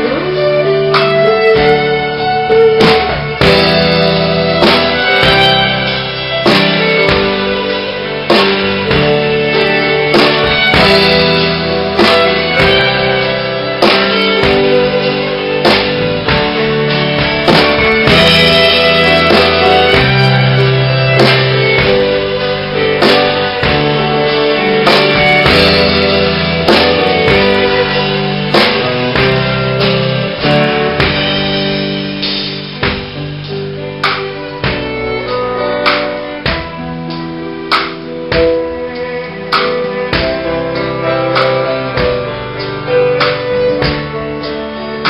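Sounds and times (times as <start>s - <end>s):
accompaniment with steady beat: 0.0s - 45.0s
drums: 0.0s - 45.0s
electric guitar: 0.0s - 45.0s
fiddle playing a tune: 0.0s - 45.0s.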